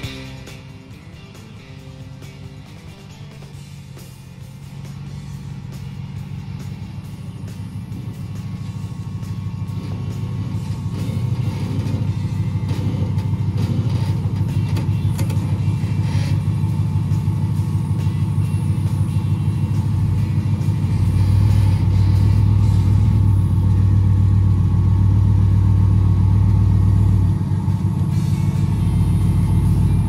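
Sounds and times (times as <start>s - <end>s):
engine running at low speed: 0.0s - 30.0s.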